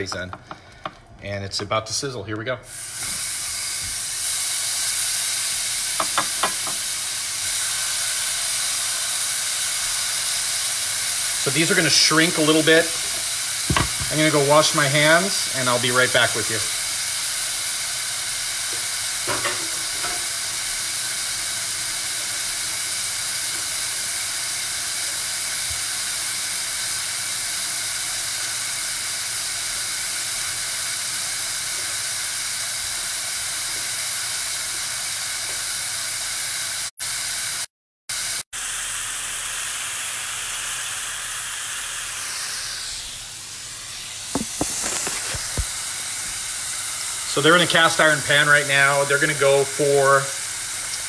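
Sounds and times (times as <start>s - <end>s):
burger patties sizzling in a pan: 2.7s - 51.0s.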